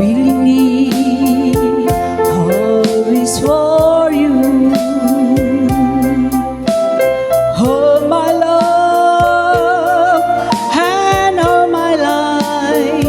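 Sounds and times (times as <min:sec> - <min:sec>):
woman singing with vibrato: 0:00.0 - 0:06.6, 0:07.6 - 0:13.0
live band playing: 0:00.0 - 0:13.0.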